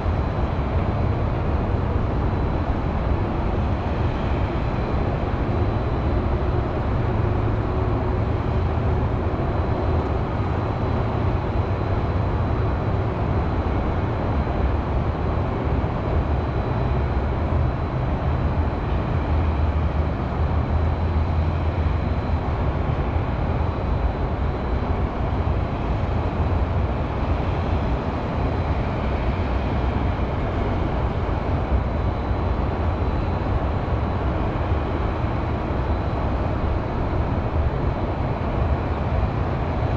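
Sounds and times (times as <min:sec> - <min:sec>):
highway traffic rumble: 0:00.0 - 0:39.9.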